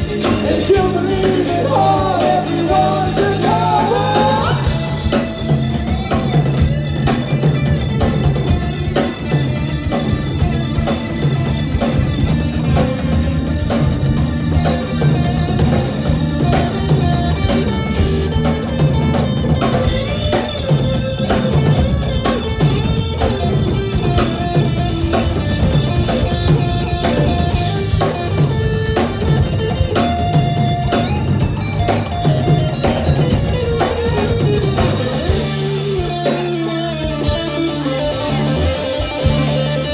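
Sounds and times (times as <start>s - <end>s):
drum kit beat: 0.0s - 39.9s
electric guitar: 0.0s - 39.9s
keyboards: 0.0s - 39.9s.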